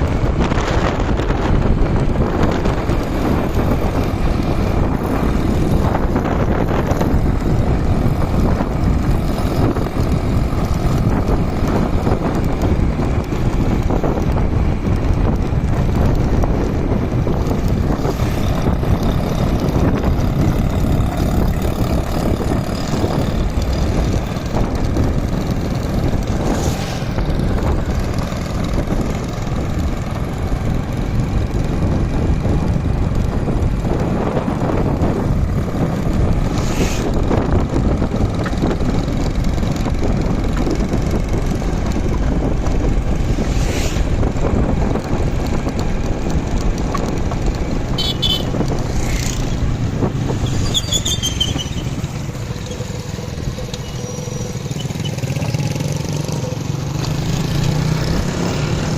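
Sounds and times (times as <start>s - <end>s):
wind rushing: 0.0s - 53.7s
motorcycle engine running: 0.0s - 58.9s.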